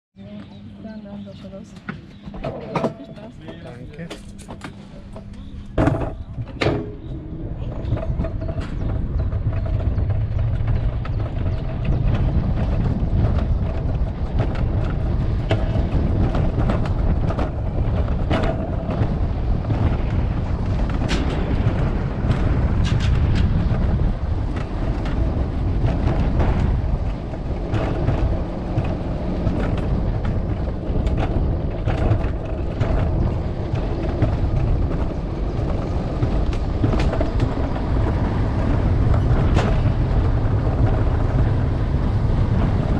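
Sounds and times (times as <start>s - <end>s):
sled wheels rumbling on track: 0.2s - 42.9s
sharp clicks and rattles: 1.8s - 42.9s.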